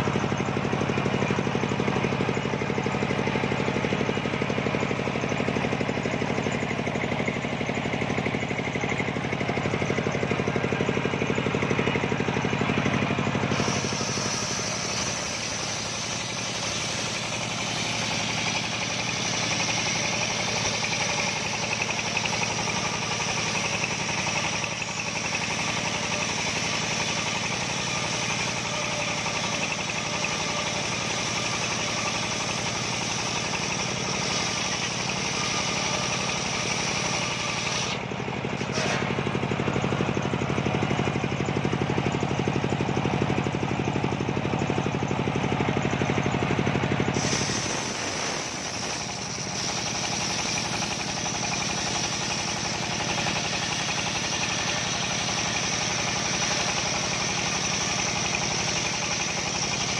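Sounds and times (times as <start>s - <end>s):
saw blade whining through log: 0.0s - 45.0s, 46.0s - 59.9s
circular sawmill running: 0.0s - 59.9s.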